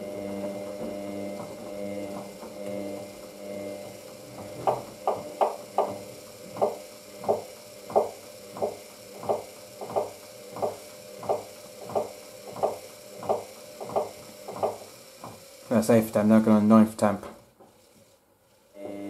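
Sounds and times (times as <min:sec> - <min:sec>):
faint motor hum: 0:00.0 - 0:19.0.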